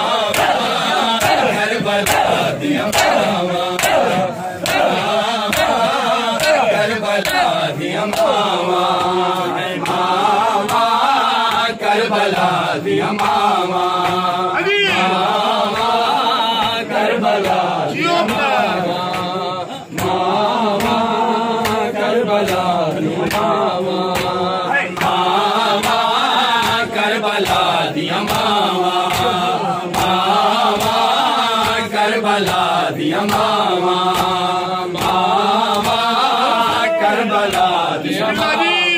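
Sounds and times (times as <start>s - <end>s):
hands slapping chests: 0.0s - 38.5s
men chanting in unison: 0.0s - 38.9s.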